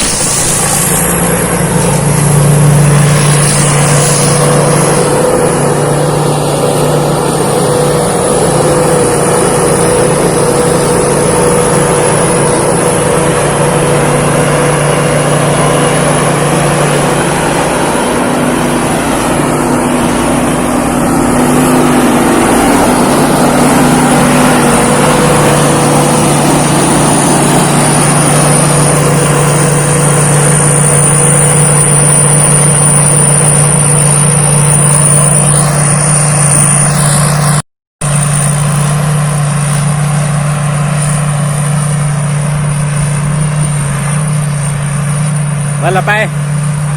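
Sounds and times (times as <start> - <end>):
combine harvester engine running: 0.0 - 46.9
high whine: 0.0 - 46.9.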